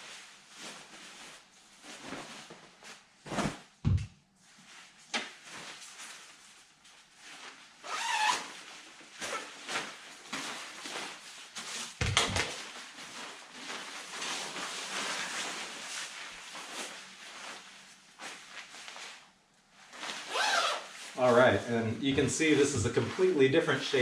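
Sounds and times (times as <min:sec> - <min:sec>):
fabric rustling: 0:00.0 - 0:03.8, 0:04.4 - 0:24.0.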